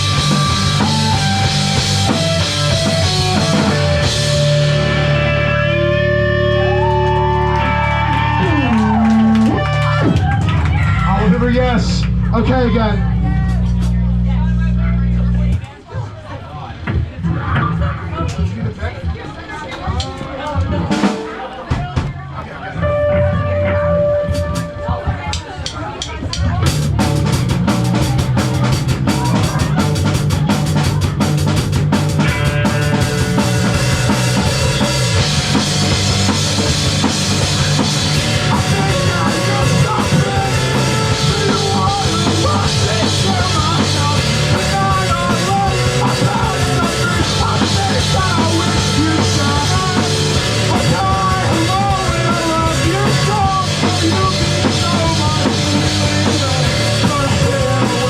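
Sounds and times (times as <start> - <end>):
pounding drum kit: 0.0 - 15.6, 20.6 - 58.0
live rock band playing: 0.0 - 15.7, 20.6 - 58.0.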